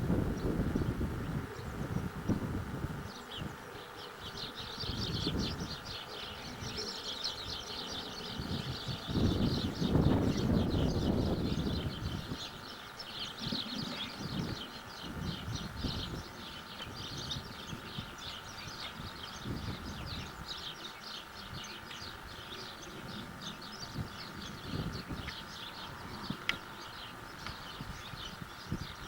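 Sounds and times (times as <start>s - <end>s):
faint steady hum: 0.0s - 29.0s
small birds chirping: 0.1s - 29.0s.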